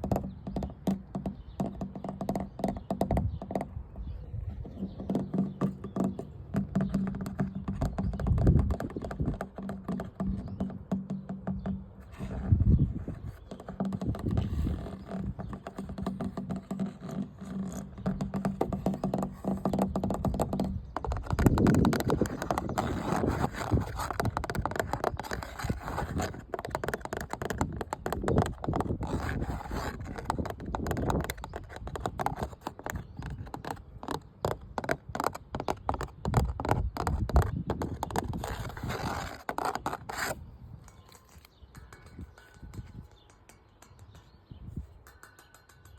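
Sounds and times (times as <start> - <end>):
rapid scratching on hard object: 0.0 - 44.2.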